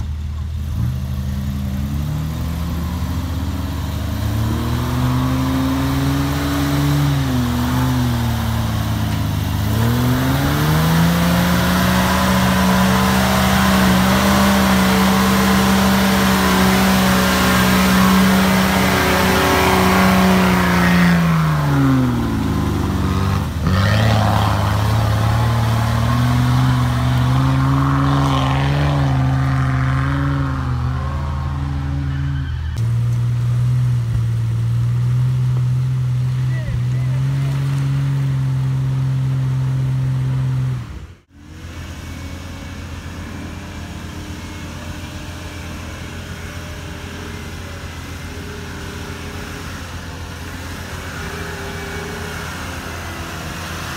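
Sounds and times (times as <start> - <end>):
off-road vehicle engine under load: 0.0 - 53.9.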